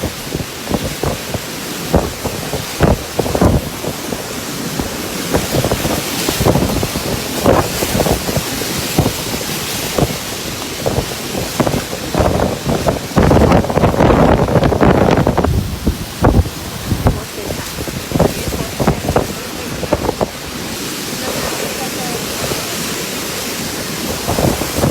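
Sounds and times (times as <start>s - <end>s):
heavy rain hiss: 0.0s - 24.9s
wind buffeting microphone: 0.0s - 24.9s.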